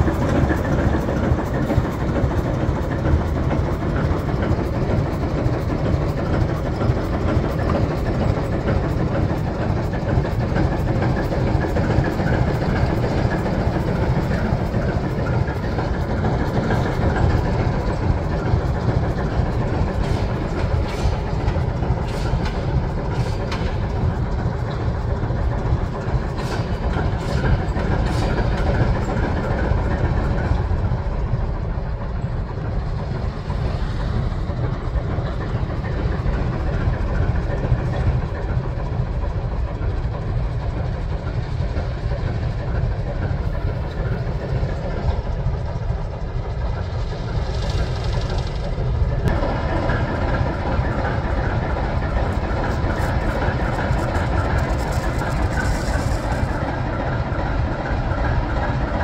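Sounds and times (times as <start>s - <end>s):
locomotive diesel engine running: 0.0s - 59.0s
wheels clicking and clanking: 0.0s - 59.0s.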